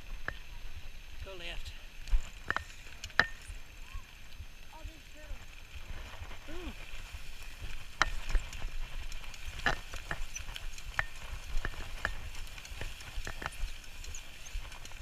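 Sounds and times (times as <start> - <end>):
bike clicking and rattling: 0.0 - 1.3, 2.0 - 15.0
bike tyres rumbling on grass: 0.0 - 15.0.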